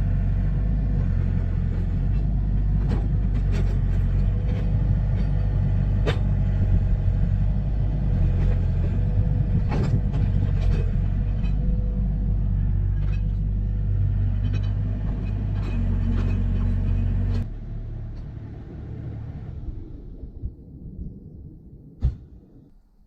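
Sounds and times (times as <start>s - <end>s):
engine running: 0.0s - 22.7s.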